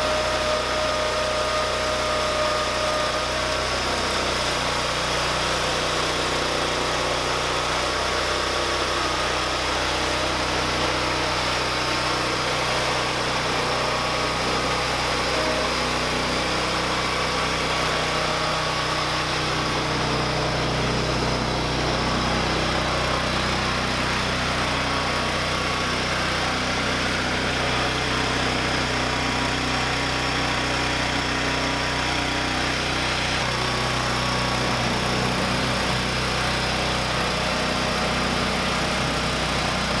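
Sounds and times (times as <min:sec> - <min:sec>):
small engine running steadily: 0:00.0 - 0:40.0.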